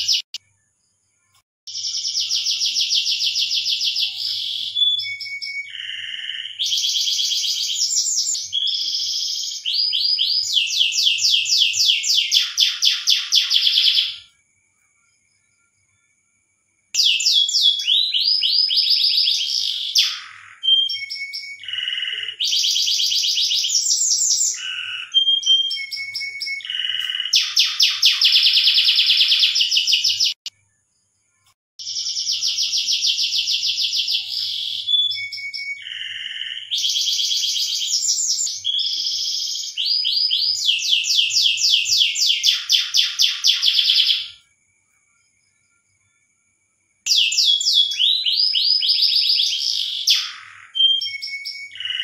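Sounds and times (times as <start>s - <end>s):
canary singing trills: 0.0s - 14.4s, 16.9s - 44.5s, 47.0s - 52.0s.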